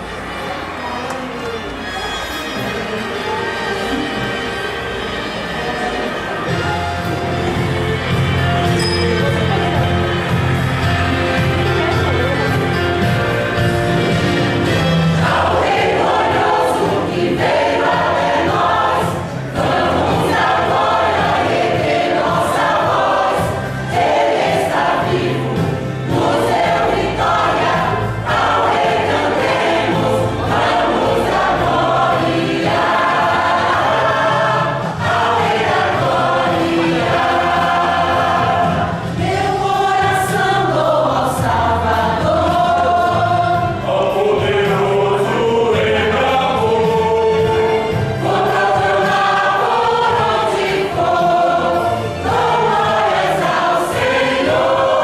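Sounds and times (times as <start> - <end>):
choir singing gospel music: 0.0 - 55.0.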